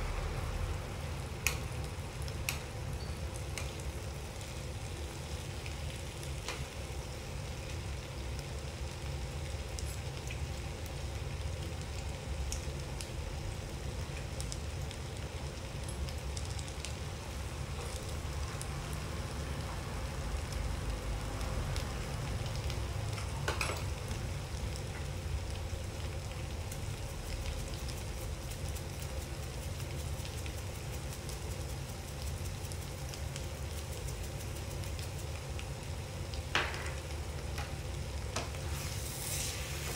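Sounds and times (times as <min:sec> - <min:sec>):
food sizzling in a frying pan: 0:00.0 - 0:39.9
gas burner low rumble: 0:00.0 - 0:39.9.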